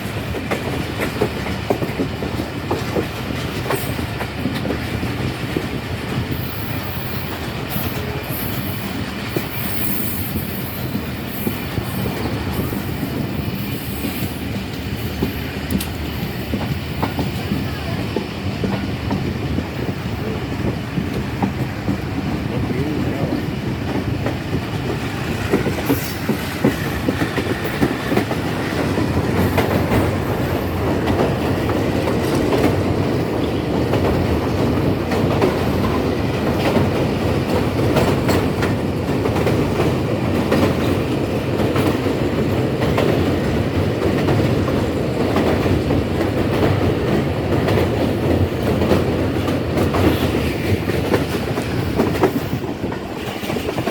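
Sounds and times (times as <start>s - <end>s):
train rumbling on track: 0.0s - 53.9s
wheels clacking over rail joints: 0.0s - 53.9s.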